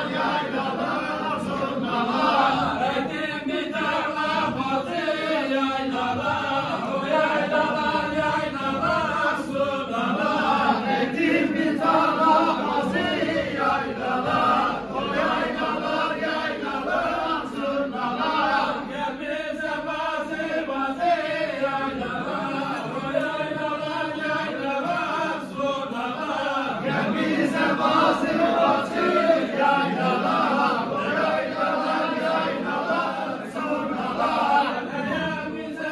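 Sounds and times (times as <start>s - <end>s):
men singing in unison: 0.0s - 35.9s.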